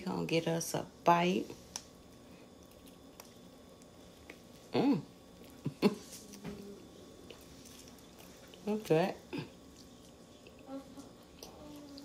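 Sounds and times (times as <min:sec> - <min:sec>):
person chewing: 0:01.7 - 0:08.7, 0:09.3 - 0:12.0.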